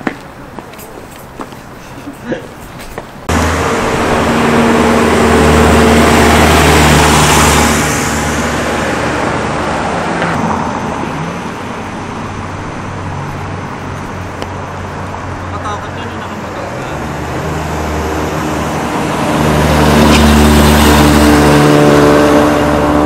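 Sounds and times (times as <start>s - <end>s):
traffic hum: 0.0s - 23.0s
vehicle passing close: 3.2s - 23.0s.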